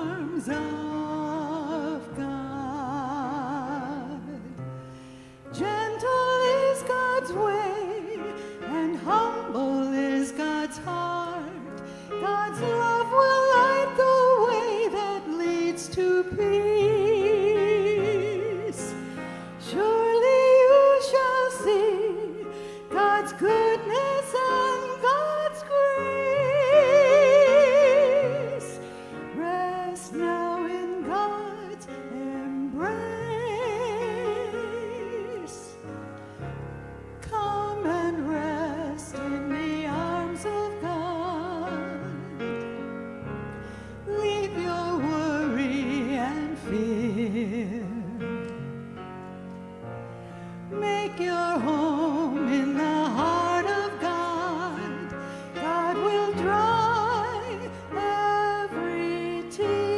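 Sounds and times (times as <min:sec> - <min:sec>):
person singing with vibrato: 0:00.0 - 0:04.6, 0:05.3 - 0:36.2, 0:43.6 - 0:48.7, 0:50.7 - 0:59.9
grand piano accompaniment: 0:00.0 - 0:59.9.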